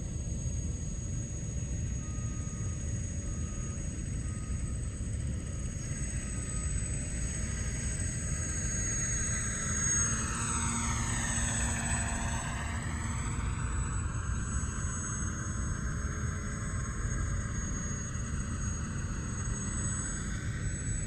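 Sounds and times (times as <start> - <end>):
model rotorcraft rotors whirring: 3.3 - 21.0.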